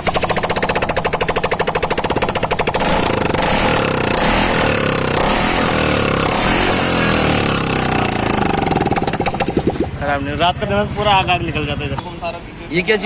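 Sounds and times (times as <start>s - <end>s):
scooter engine open-exhaust popping: 0.0s - 12.2s.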